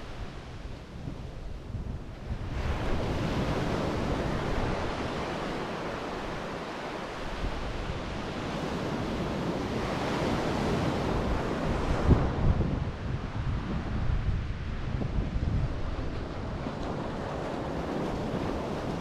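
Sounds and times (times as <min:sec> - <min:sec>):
wind rumbling on microphone: 0:00.0 - 0:19.0
surf breaking on sand beach: 0:02.3 - 0:19.0.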